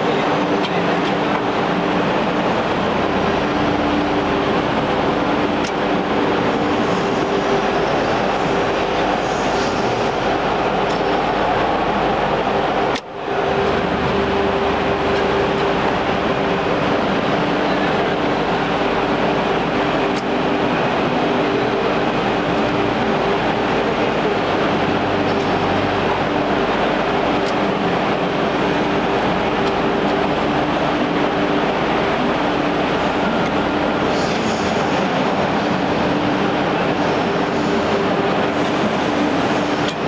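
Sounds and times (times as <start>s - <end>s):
blade-grinding machine running: 0.0s - 40.0s.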